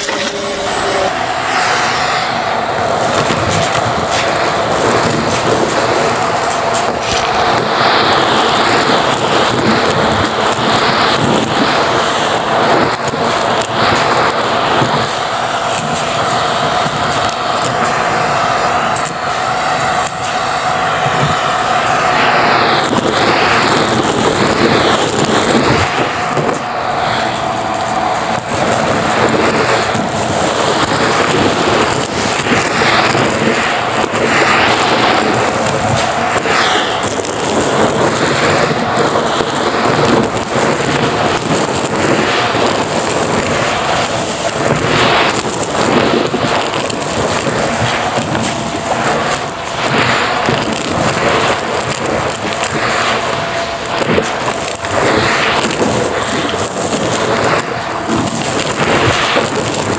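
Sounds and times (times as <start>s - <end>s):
vacuum cleaner motor whine: 0.0s - 50.4s.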